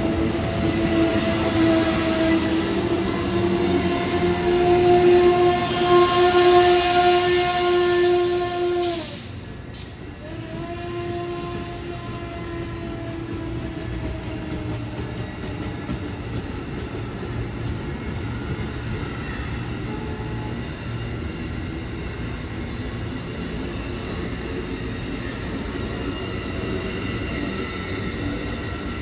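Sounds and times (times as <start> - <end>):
train cars rumbling on rails: 0.0 - 29.0.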